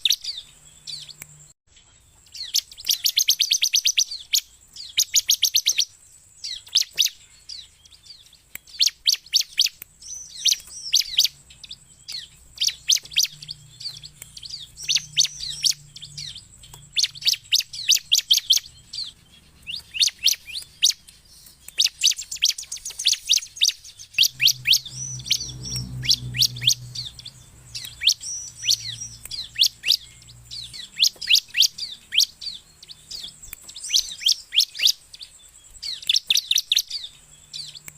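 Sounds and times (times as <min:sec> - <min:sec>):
bird singing rapid high chirps: 0:00.0 - 0:37.9.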